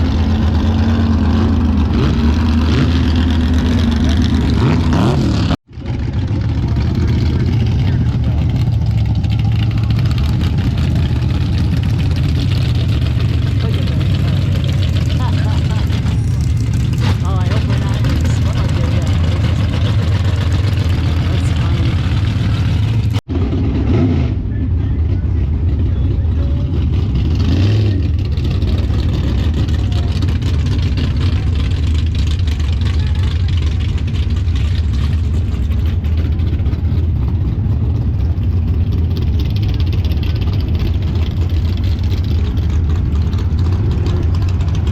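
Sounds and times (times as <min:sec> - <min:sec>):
truck engine deep drone: 0:00.0 - 0:44.9.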